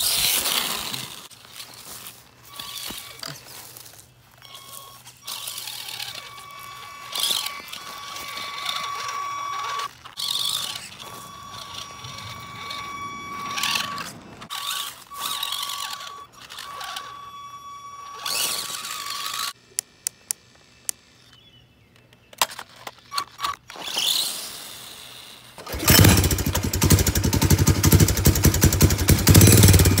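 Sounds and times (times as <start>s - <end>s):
tires scrabbling on dirt and leaves: 0.0s - 17.4s, 18.0s - 19.6s, 23.0s - 30.0s
electric motor and gearbox whining: 0.0s - 30.0s.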